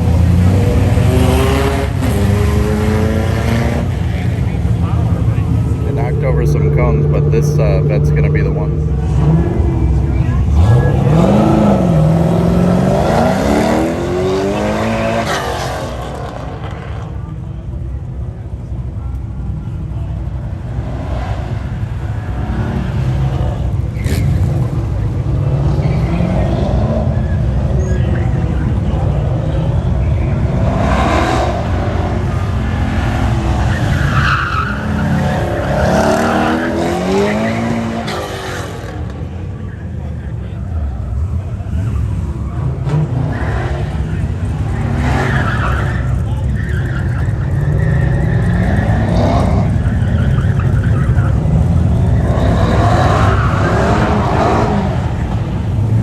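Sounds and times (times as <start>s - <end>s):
tires squealing: 0.0s - 17.4s, 19.5s - 56.0s
car engine accelerating hard: 0.0s - 56.0s.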